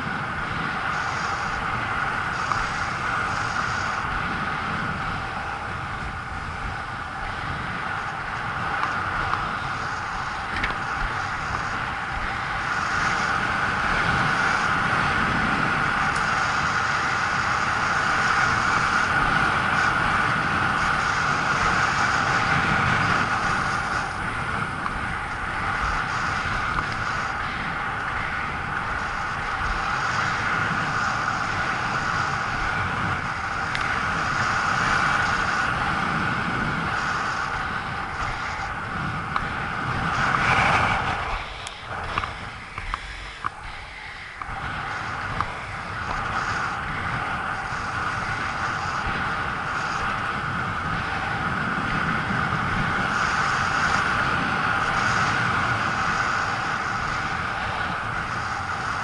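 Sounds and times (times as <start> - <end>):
skate wheels rolling on asphalt: 0.0 - 59.0
wind buffeting microphone: 0.0 - 59.0.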